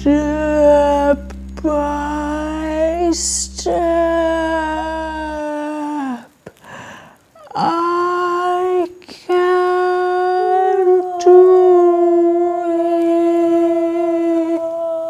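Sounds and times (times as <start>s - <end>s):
voice holding long ooh: 0.0s - 6.4s, 7.4s - 15.0s.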